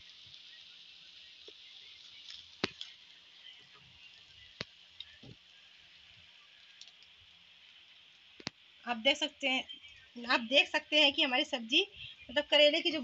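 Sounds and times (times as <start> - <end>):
soft steady hiss: 0.0 - 13.0.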